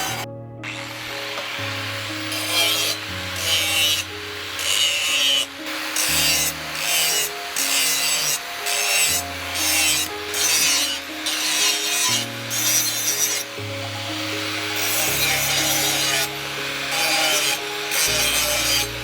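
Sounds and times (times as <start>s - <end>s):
hand file scraping: 0.0s - 13.6s, 14.2s - 19.0s
background music: 0.0s - 19.0s.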